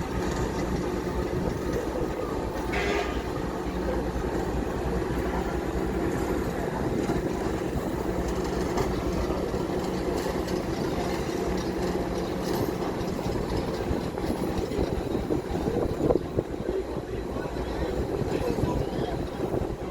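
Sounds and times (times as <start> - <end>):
vehicle rumbling in motion: 0.0 - 19.9.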